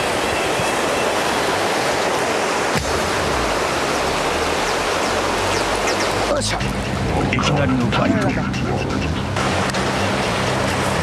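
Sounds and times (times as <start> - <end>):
fast-flowing river rushing: 0.0 - 11.0.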